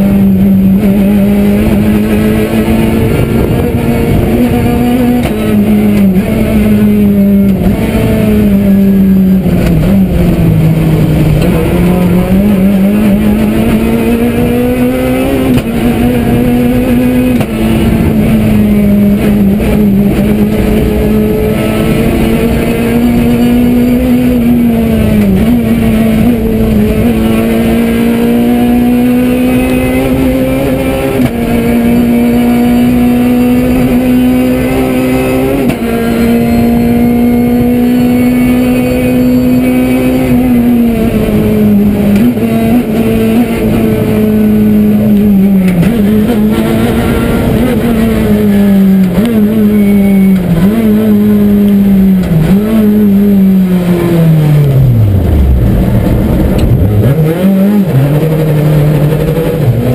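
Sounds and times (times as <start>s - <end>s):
car engine at high revs: 0.0s - 59.9s
road noise: 0.0s - 59.9s.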